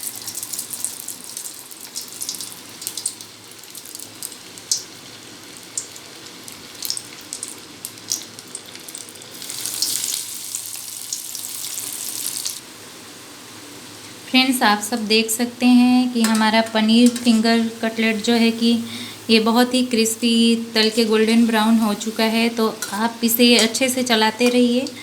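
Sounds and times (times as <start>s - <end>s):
food deep-frying in oil: 0.0s - 25.0s
sharp crackles of frying: 0.0s - 25.0s.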